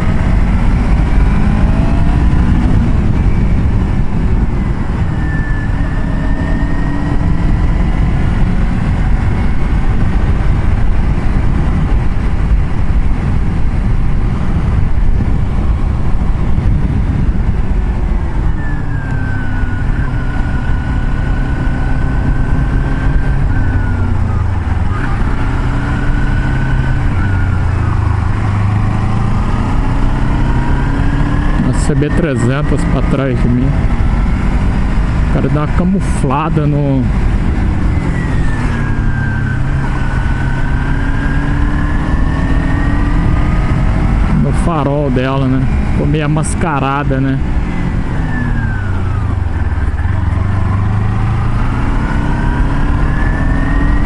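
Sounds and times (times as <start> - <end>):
vehicle engine running: 0.0 - 54.0
wind and road noise: 0.0 - 54.0.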